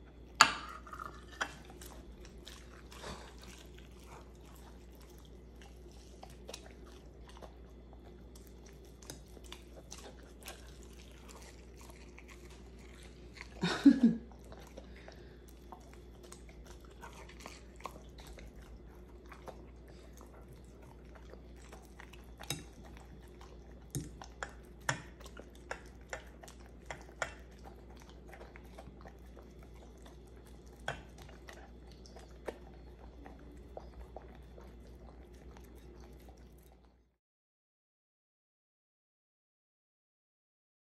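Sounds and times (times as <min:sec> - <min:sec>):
dog chewing and licking: 0:00.0 - 0:37.1.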